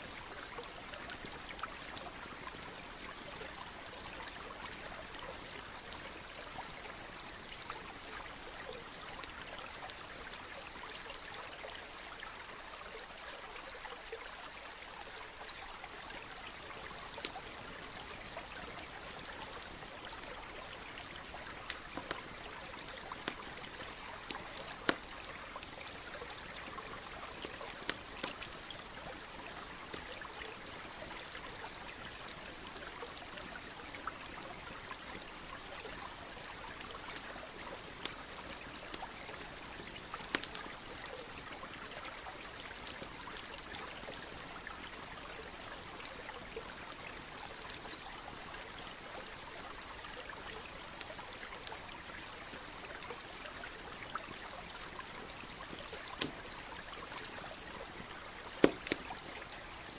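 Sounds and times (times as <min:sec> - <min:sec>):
campfire crackling and popping: 0:00.0 - 0:13.1, 0:15.5 - 0:59.9
stream trickling: 0:00.0 - 0:59.9.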